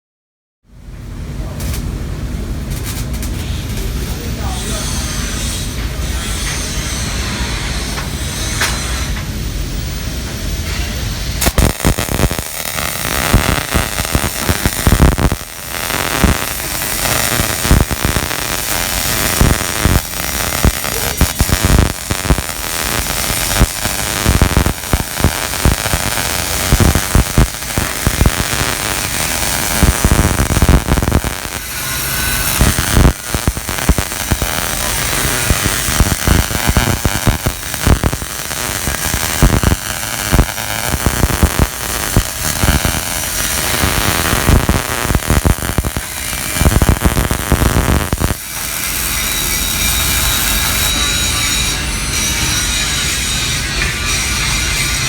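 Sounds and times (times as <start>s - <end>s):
arc welding crackle: 2.6s - 5.6s, 6.4s - 55.0s.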